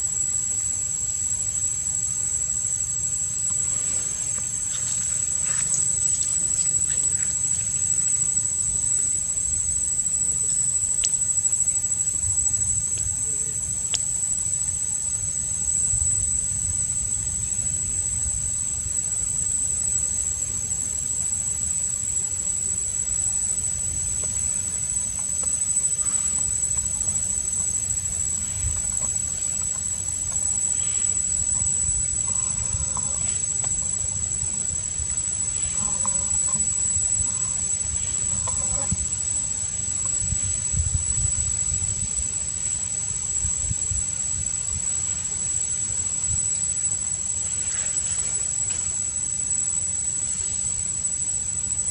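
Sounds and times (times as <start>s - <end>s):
high-pitched whine: 0.0s - 51.9s.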